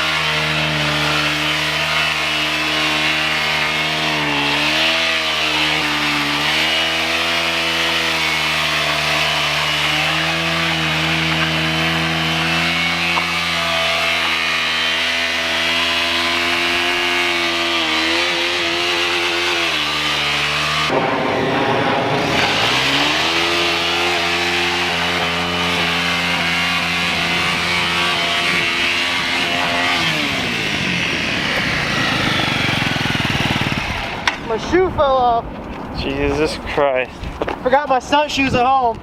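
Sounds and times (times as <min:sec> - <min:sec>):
motorcycle engine at high revs: 0:00.0 - 0:34.6.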